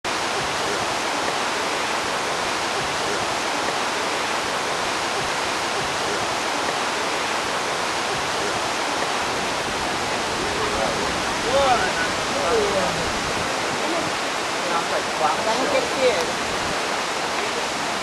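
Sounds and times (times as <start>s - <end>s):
waterfall rushing: 0.1s - 18.0s.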